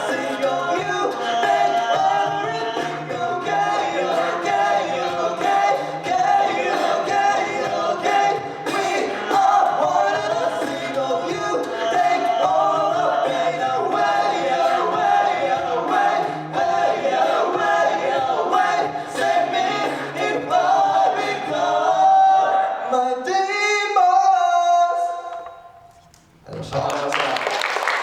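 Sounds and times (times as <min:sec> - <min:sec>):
vocal percussive beat: 0:00.0 - 0:23.5
a cappella group singing: 0:00.0 - 0:25.7.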